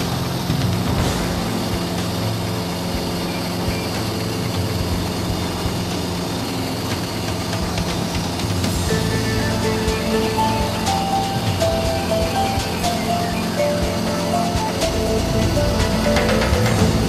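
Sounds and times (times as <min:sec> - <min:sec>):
aircraft engine drone: 0:00.0 - 0:17.0
rushing air noise: 0:00.0 - 0:17.0.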